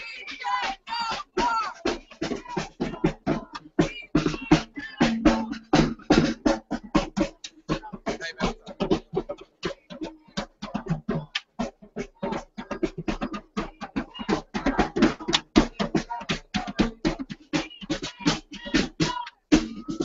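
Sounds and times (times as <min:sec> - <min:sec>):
snare drum beaten with sticks: 0:00.0 - 0:20.0.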